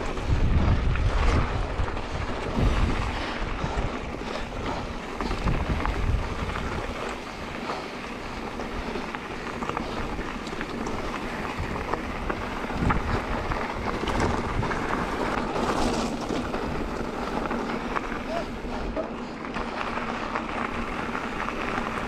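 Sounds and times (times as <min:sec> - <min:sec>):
bike rolling on dirt trail: 0:00.0 - 0:22.0
wind buffeting microphone: 0:00.0 - 0:22.0.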